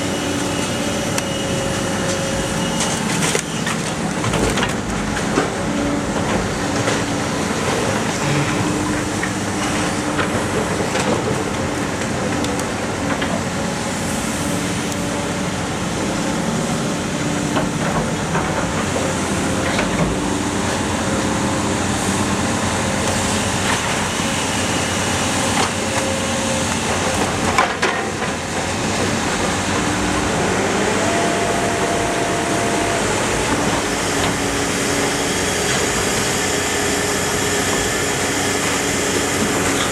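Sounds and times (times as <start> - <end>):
car baler mechanical din: 0.0 - 13.8, 14.6 - 39.9.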